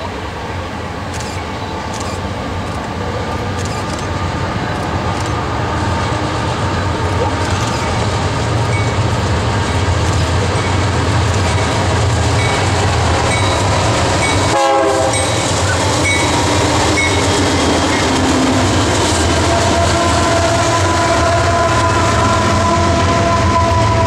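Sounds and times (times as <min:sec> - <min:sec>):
diesel locomotive engines: 0:00.0 - 0:24.0.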